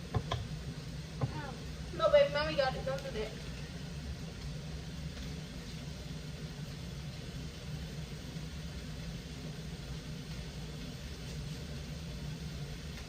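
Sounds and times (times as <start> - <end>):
faint hiss: 0.0 - 13.0
low mechanical hum: 0.0 - 13.0.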